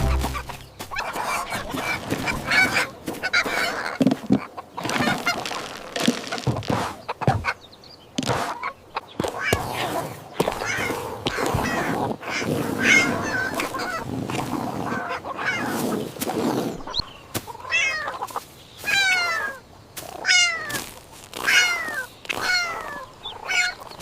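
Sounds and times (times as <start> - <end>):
noisy animal sound: 0.0 - 24.0.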